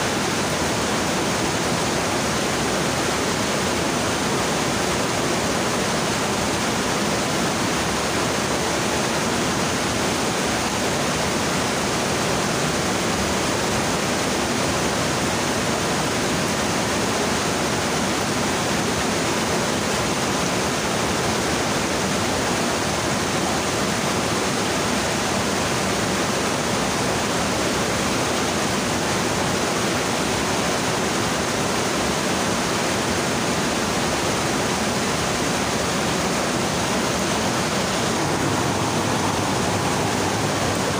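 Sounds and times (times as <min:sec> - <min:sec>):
stream rushing over boulders: 0:00.0 - 0:40.9.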